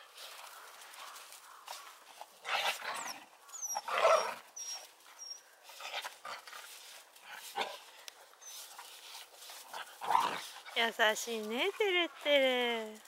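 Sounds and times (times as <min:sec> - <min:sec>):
puppies and dog vocalizing: 0:00.0 - 0:12.4.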